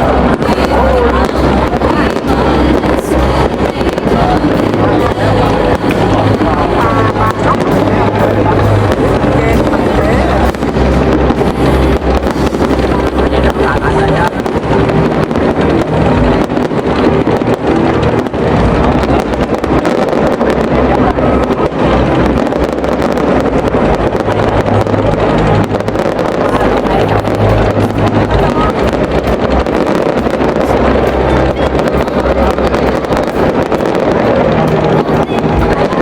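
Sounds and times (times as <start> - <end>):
fireworks bangs and crackles: 0.0 - 36.0
low rumble: 0.0 - 36.0.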